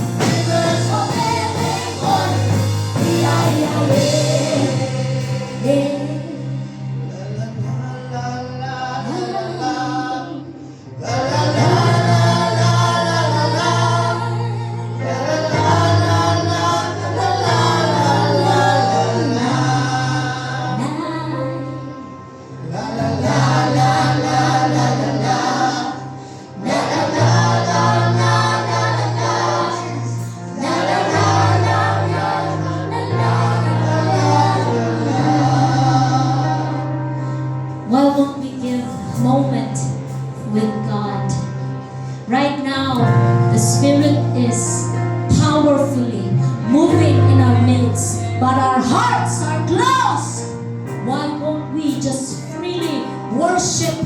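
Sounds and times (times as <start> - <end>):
choir singing gospel song: 0.0 - 42.1, 43.0 - 54.0
low instrumental backing: 0.0 - 54.0.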